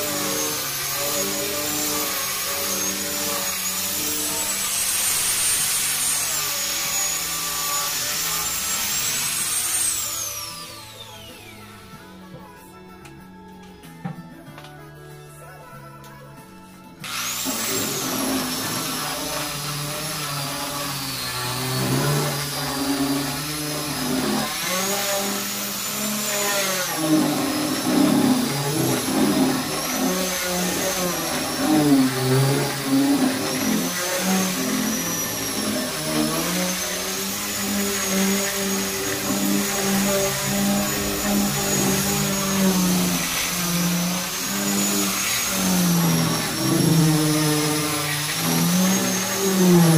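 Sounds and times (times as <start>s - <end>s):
angle grinder sanding wood: 0.0s - 11.8s, 17.0s - 49.9s.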